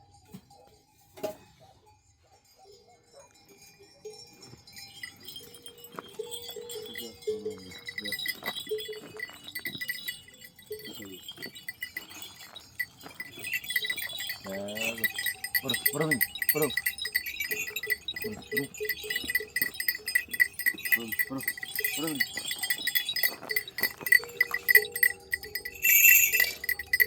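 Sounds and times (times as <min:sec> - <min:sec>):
livestock bells clinking: 0:00.0 - 0:27.0.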